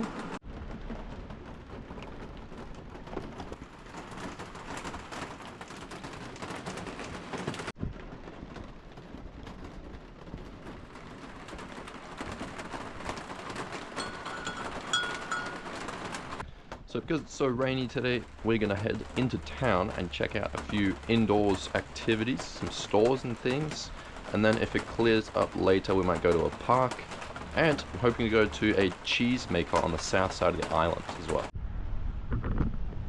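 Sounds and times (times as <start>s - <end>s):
steady rain: 0.0s - 31.6s.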